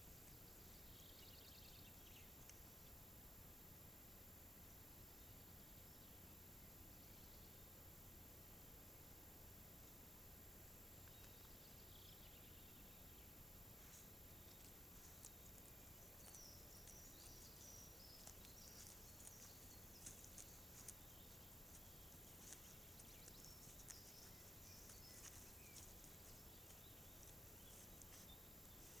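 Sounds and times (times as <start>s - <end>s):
faint outdoor ambience: 0.0s - 29.0s.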